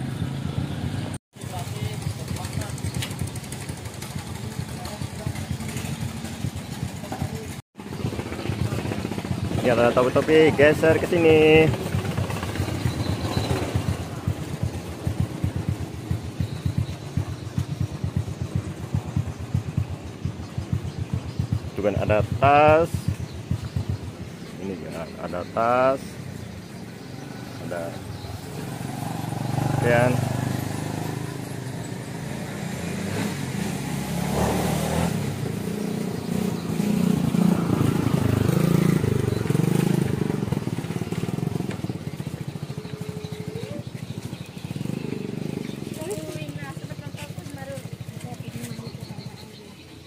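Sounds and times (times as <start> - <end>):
small engine chugging: 1.4 - 31.8, 35.5 - 50.0.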